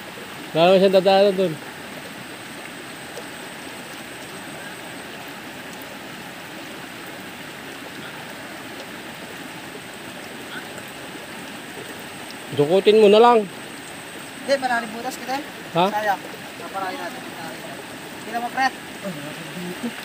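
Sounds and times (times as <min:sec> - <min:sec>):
river water flowing: 0:00.0 - 0:20.0.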